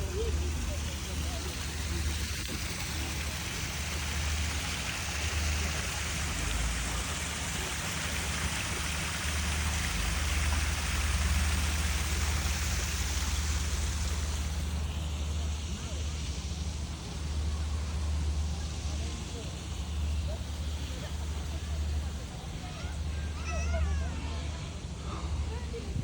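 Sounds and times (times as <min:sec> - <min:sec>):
steady rushing noise: 0:00.0 - 0:23.3.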